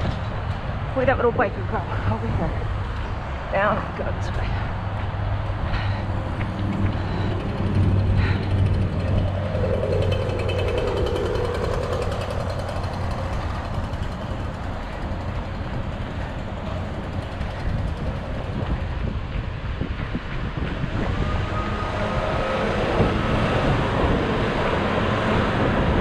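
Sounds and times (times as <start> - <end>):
city traffic hum: 0.0 - 26.0
vehicle passing: 0.0 - 26.0.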